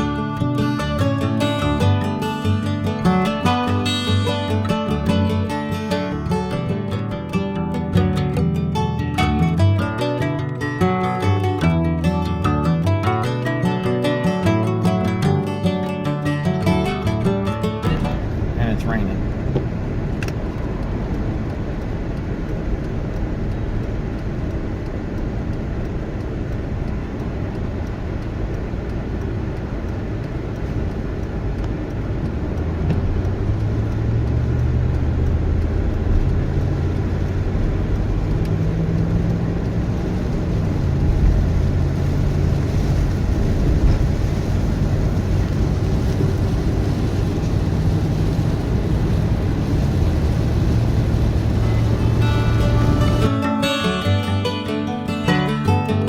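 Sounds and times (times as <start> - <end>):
low engine hum: 0.0 - 56.0
road and engine noise: 0.0 - 56.0.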